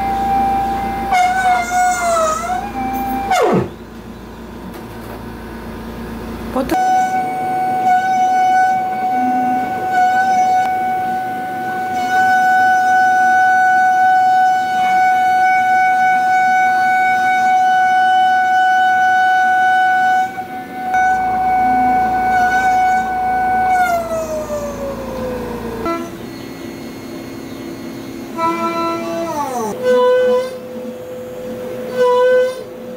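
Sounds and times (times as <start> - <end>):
milling machine high-pitched whine: 0.0 - 32.9.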